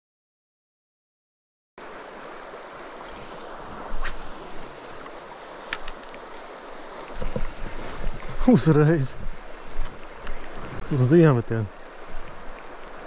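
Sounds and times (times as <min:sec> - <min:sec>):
river water rushing: 0:01.8 - 0:13.0.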